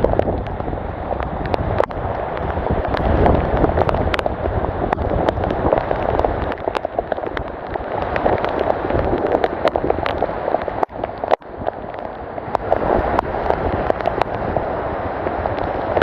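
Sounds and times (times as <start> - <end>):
raindrops hitting: 0.0 - 16.0.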